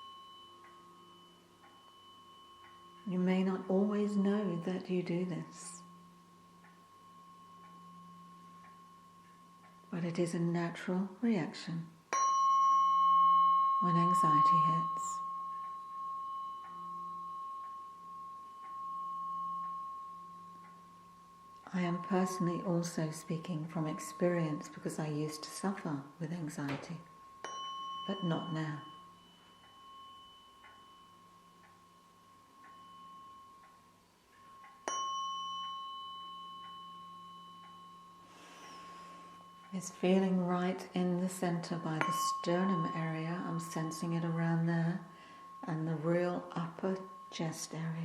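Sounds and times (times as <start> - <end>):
low tuning fork hum: 0.0 - 48.0
tuning fork high tone: 0.0 - 48.0.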